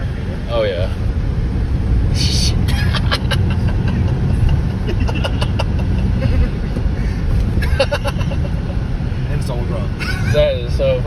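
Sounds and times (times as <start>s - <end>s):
road and wind rumble in car: 0.0s - 11.0s.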